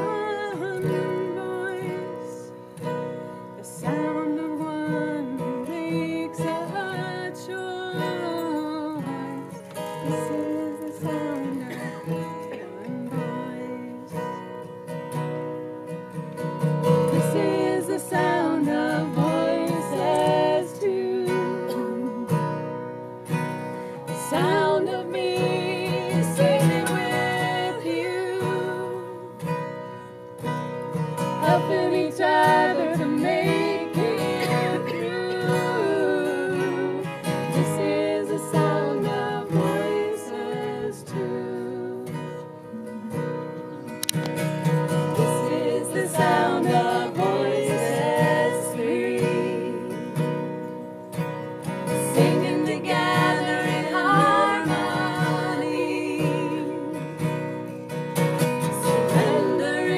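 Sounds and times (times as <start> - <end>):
women singing in harmony: 0.0 - 2.8, 3.5 - 14.5, 16.8 - 22.8, 24.0 - 29.8, 31.2 - 43.8, 44.8 - 50.8, 51.6 - 59.9
acoustic guitar strumming: 0.0 - 59.9.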